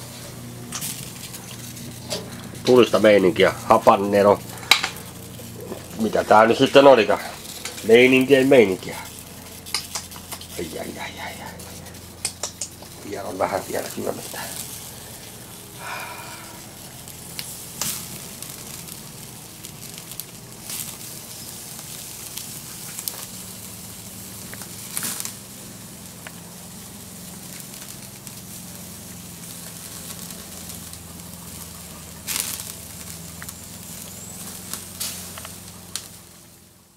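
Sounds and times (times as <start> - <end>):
wood popping: 0.0 - 36.6
sausages sizzling: 0.0 - 36.9
wood fire crackling: 0.0 - 36.9.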